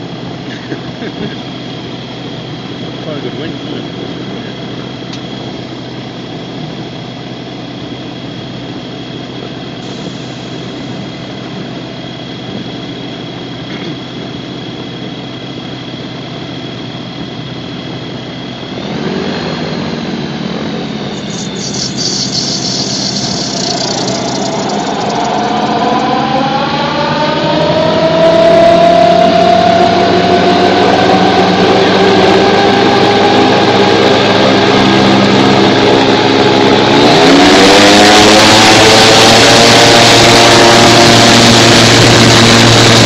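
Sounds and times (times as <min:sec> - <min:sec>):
gyrocopter engine running: 0:00.0 - 0:18.8, 0:19.9 - 0:37.0, 0:37.9 - 0:43.0.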